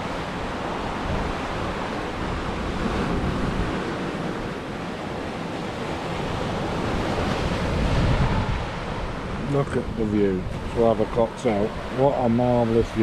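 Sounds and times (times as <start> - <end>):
surf breaking on beach: 0.0 - 13.0
wind gusting on microphone: 0.0 - 13.0.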